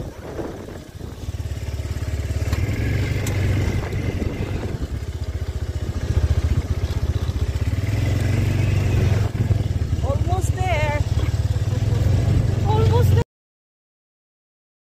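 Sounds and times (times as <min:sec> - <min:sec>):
engine low pulsing: 0:00.0 - 0:13.2.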